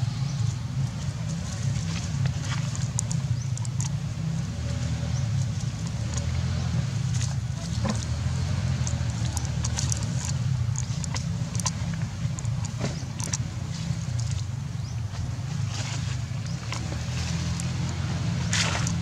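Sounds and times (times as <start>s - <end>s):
low motor-like rumble: 0.0s - 19.0s
light clicks and rustles: 0.8s - 19.0s.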